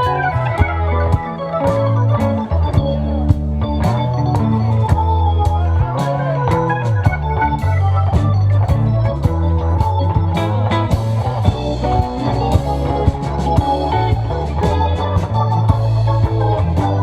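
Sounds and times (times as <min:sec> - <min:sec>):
live rock band instrumental: 0:00.0 - 0:17.0.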